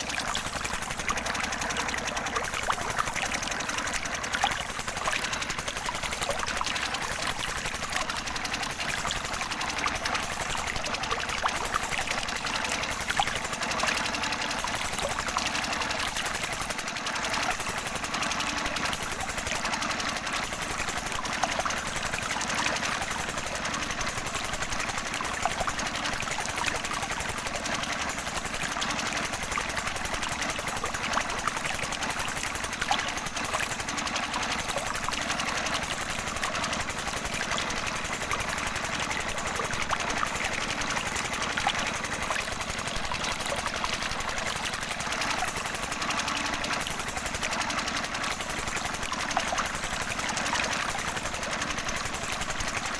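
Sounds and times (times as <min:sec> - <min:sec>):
small water pump motor rattling: 0:00.0 - 0:52.9.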